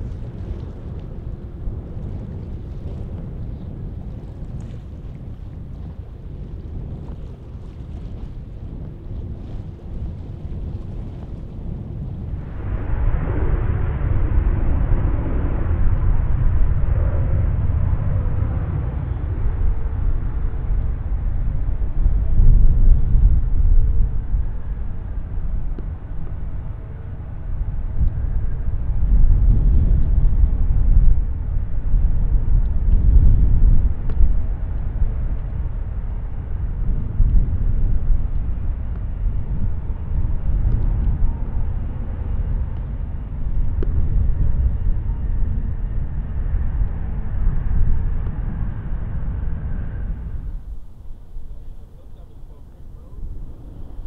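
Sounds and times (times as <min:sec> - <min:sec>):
jet airliner rumbling: 0:00.0 - 0:54.0.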